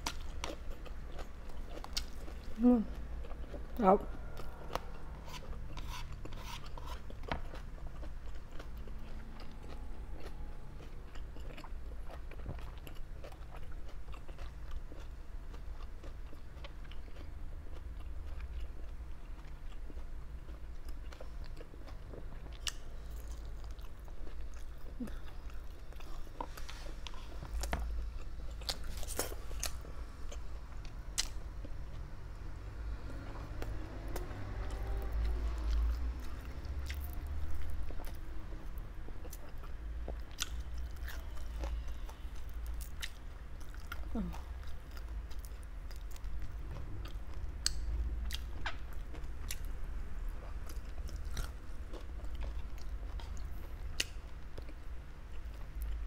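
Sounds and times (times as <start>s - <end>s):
chewing and biting meat: 0.0s - 32.1s, 33.1s - 56.0s
steady low hum: 0.0s - 56.0s.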